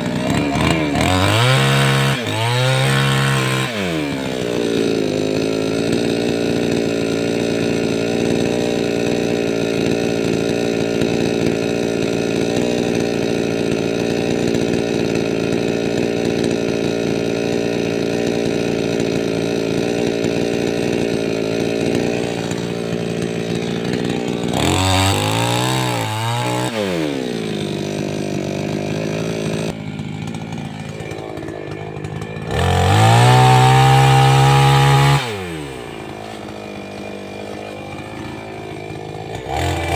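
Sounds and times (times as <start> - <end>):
chainsaw engine cutting and revving: 0.0 - 39.9.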